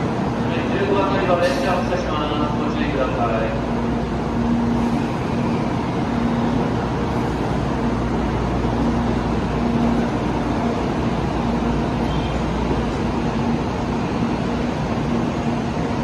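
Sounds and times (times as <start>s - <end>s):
train mechanical hum and rumble: 0.0s - 16.0s.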